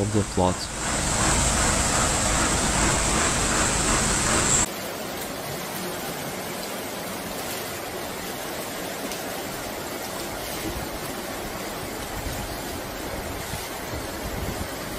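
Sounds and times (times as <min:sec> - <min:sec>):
floodwater rushing: 0:00.0 - 0:14.9.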